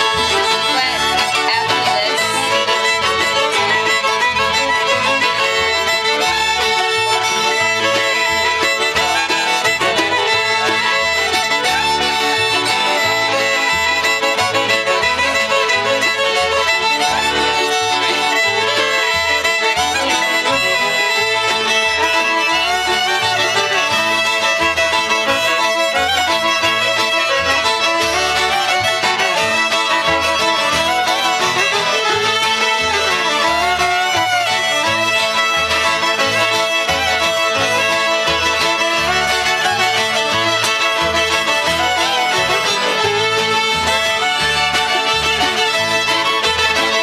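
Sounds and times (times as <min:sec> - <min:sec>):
fiddle folk music: 0:00.0 - 0:47.0.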